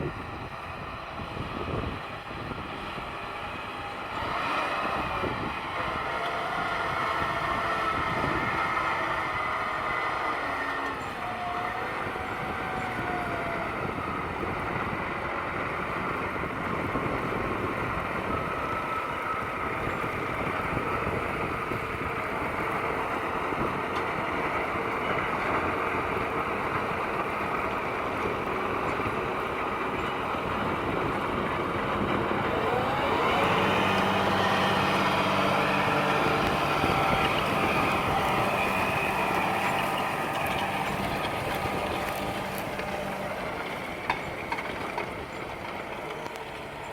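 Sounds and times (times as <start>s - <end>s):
low steady engine drone: 0.0s - 46.9s
tractor engines under load: 0.0s - 46.9s.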